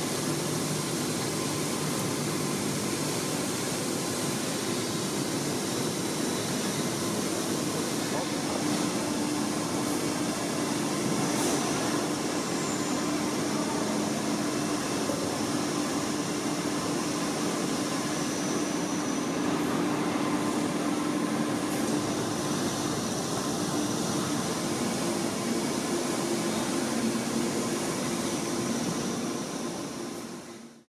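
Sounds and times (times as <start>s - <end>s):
vacuum cleaner running: 2.5s - 30.5s.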